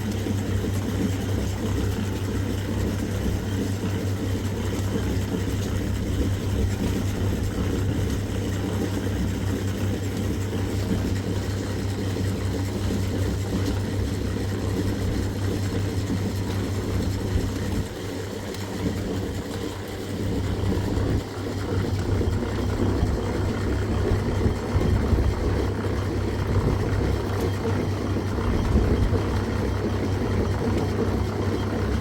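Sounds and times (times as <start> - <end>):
engine humming: 0.0 - 32.0.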